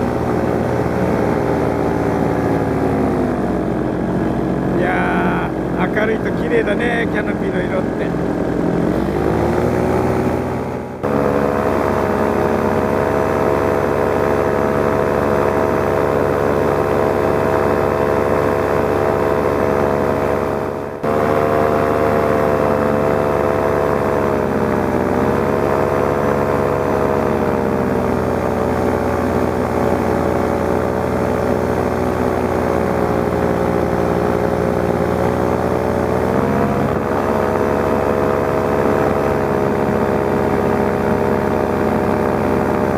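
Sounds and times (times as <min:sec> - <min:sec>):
paramotor engine and propeller: 0:00.0 - 0:42.9.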